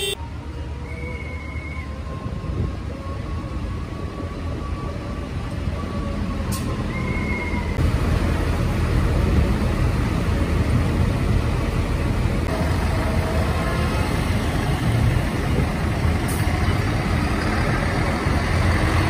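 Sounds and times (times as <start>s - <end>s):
tractor engines rumbling: 0.0s - 19.0s.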